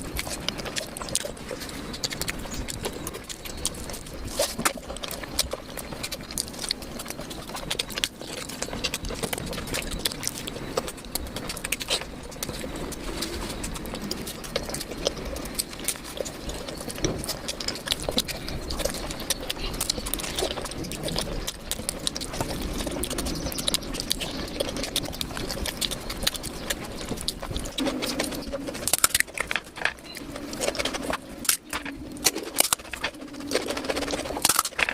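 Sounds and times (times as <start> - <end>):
chewing and smacking food: 0.0 - 34.9.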